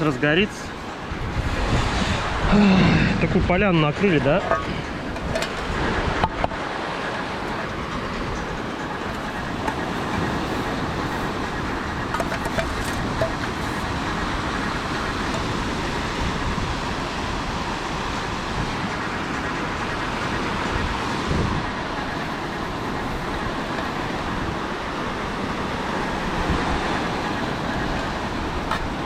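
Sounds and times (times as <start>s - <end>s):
fan blowing air: 0.0s - 29.0s.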